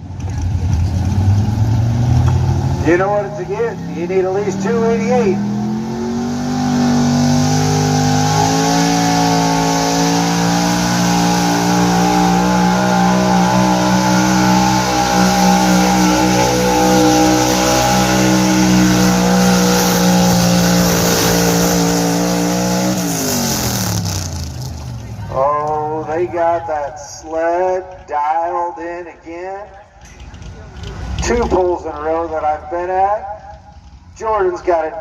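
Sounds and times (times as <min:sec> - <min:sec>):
pickup truck engine at full throttle: 0:00.0 - 0:28.1, 0:29.7 - 0:34.8.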